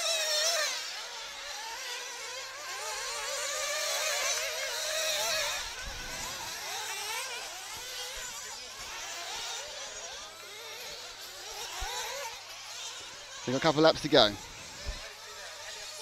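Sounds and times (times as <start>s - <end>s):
rc car engines buzzing: 0.0s - 16.0s.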